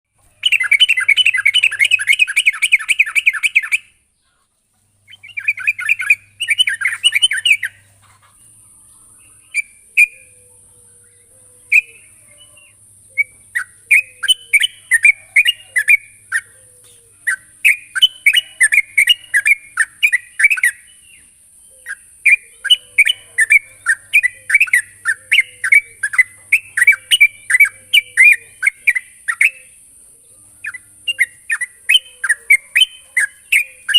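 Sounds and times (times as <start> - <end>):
bird harsh chatter: 0.2 - 4.0, 5.1 - 30.0.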